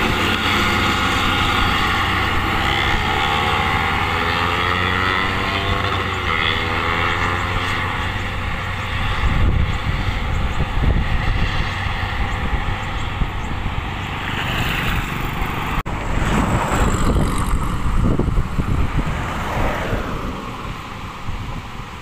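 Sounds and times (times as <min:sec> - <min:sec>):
grader diesel engine running: 0:00.0 - 0:19.2
passing road traffic: 0:00.0 - 0:22.0
wind buffeting microphone: 0:00.0 - 0:22.0.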